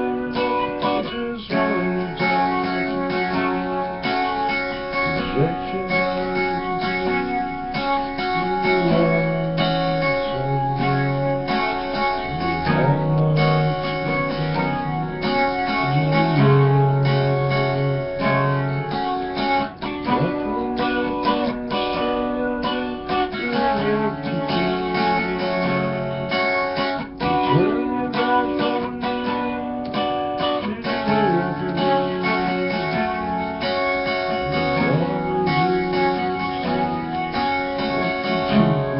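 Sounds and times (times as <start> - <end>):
guitar music: 0.0 - 38.9.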